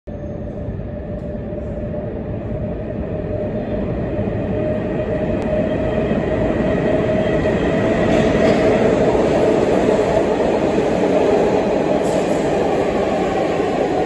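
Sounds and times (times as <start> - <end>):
subway train rumble: 0.1 - 14.0.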